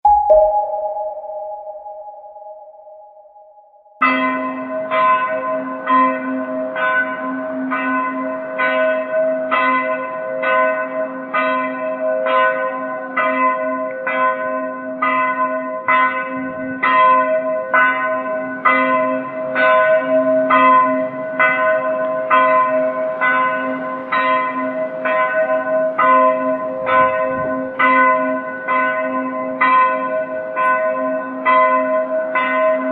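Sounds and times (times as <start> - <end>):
church bell ringing: 0.1 - 2.9, 4.0 - 32.9.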